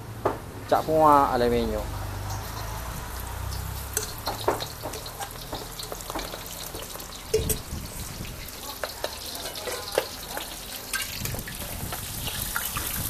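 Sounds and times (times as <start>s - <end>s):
food sizzling in hot oil: 0.9s - 13.0s
oil spattering crackles and pops: 2.2s - 13.0s.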